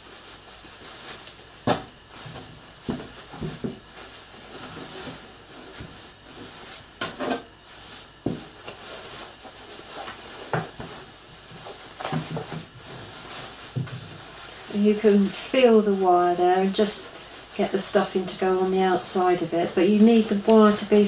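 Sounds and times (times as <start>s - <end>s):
stuffing and cloth rustling: 0.0s - 21.0s.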